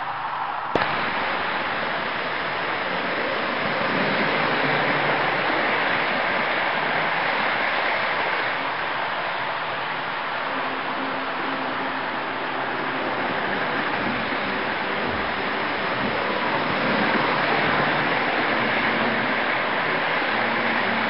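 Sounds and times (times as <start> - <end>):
model train rattling on track: 0.8 - 21.0.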